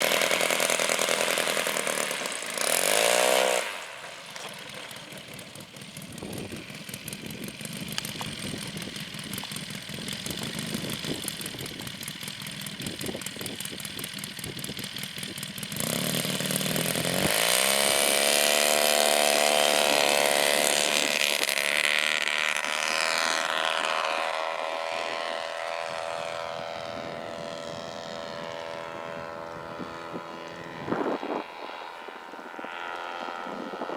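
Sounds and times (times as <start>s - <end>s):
light aircraft engine: 0.0s - 33.9s.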